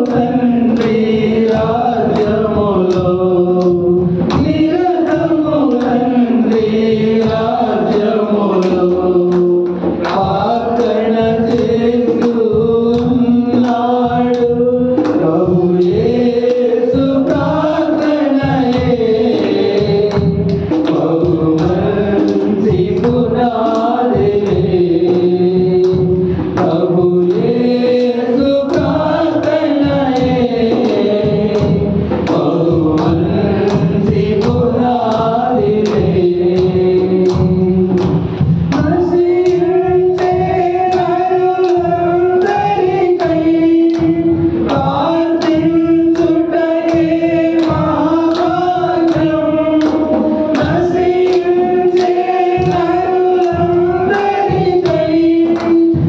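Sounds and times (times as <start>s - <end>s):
man singing into a microphone: 0.0s - 56.0s
steady beat: 0.0s - 56.0s.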